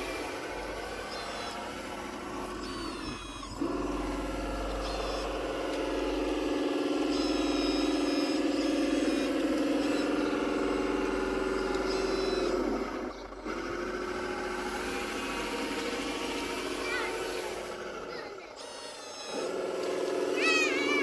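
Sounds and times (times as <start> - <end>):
model machine engine drone: 0.0 - 21.0.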